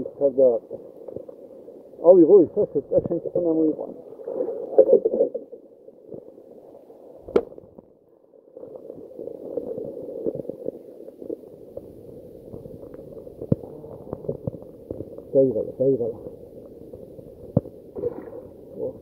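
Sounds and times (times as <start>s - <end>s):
muffled underwater wash: 0.0s - 19.0s.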